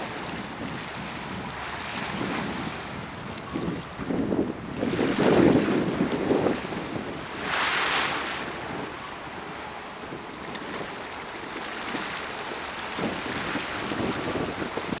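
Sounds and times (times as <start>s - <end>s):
choppy river water washing: 0.0s - 15.0s
wind rushing over microphone: 0.0s - 15.0s.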